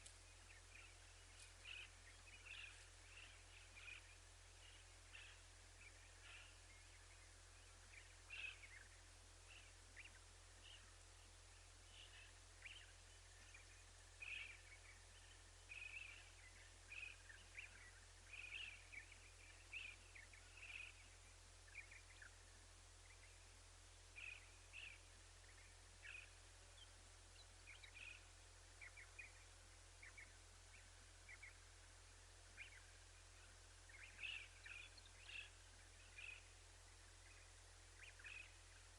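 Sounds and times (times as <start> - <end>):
faint birds chirping: 0.0 - 38.9
steady background hiss: 0.0 - 38.9.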